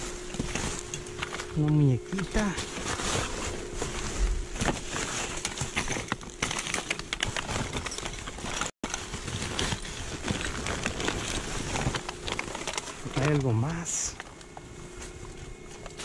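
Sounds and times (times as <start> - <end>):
plastic bags rustling and crinkling: 0.0 - 16.0.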